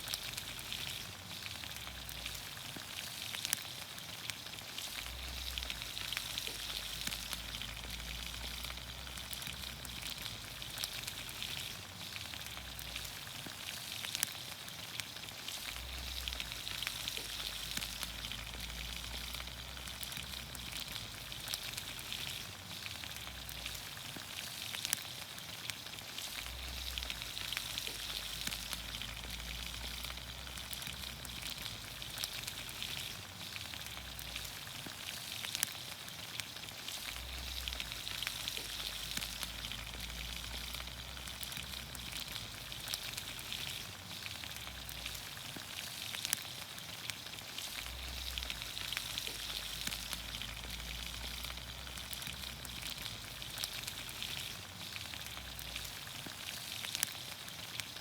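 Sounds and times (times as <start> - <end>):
oil popping and crackling: 0.0 - 58.0
vegetables sizzling in a pan: 0.0 - 58.0.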